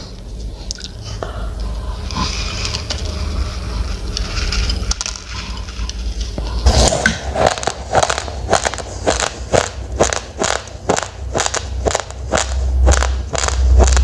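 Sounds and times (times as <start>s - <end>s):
low rumble: 0.0s - 14.0s
rice grains crackling and scraping: 2.1s - 14.0s.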